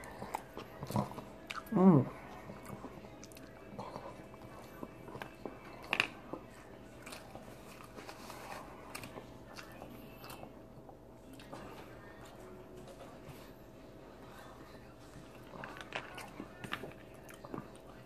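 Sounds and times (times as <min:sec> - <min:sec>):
person chewing food: 0:00.0 - 0:13.4, 0:14.2 - 0:18.0.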